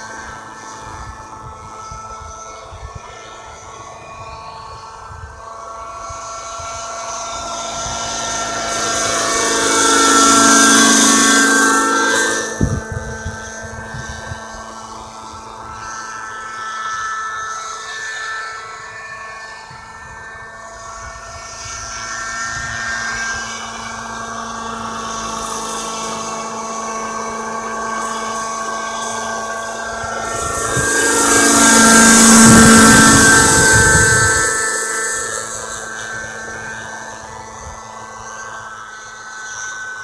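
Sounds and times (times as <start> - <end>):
model helicopter engine whine: 0.0 - 40.0.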